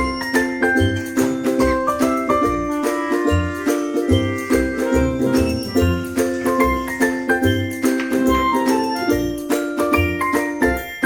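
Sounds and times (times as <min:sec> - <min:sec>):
upbeat music with chiming bells: 0:00.0 - 0:11.0.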